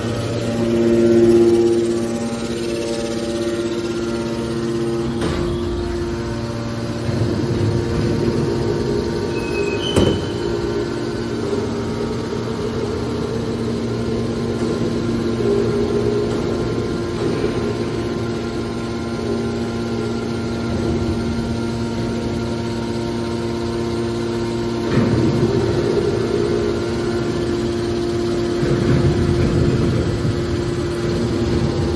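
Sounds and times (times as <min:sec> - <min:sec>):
hydraulic pump humming: 0:00.0 - 0:31.9.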